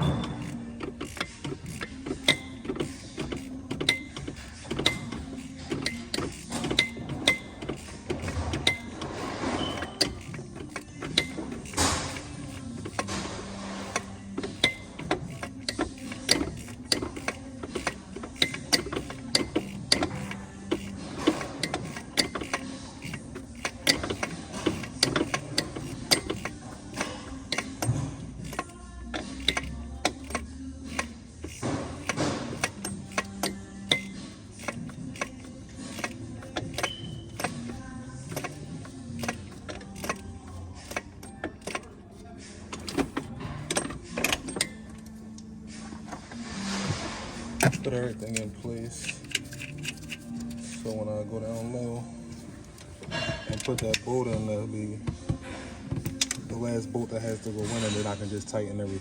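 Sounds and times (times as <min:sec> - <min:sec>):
hand ratchet clicking: 0:00.0 - 0:58.7
faint background music: 0:00.0 - 0:59.0
metal tools clinking: 0:00.0 - 0:59.0.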